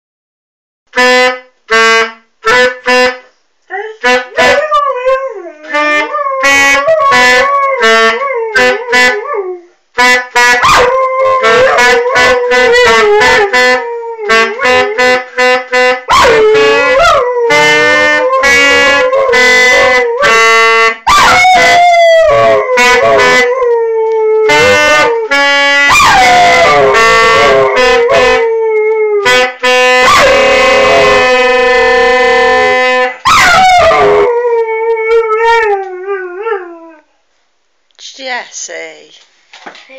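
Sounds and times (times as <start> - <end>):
saxophone notes: 0.9 - 37.0.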